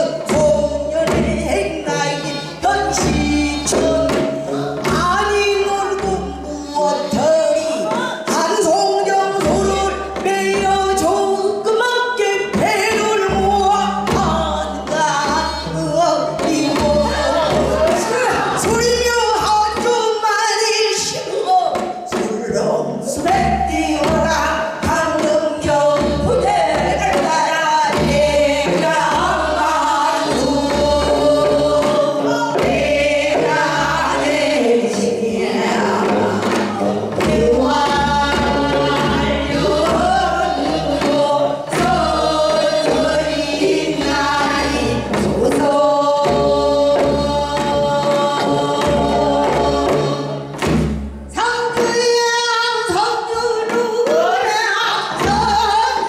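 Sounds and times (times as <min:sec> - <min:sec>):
women singing folk song together: 0:00.0 - 0:56.0.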